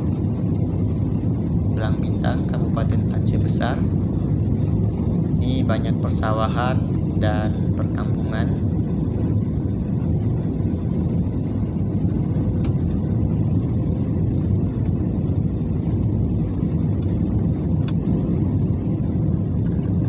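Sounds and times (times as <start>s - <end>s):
jet cabin engine roar: 0.0s - 20.0s.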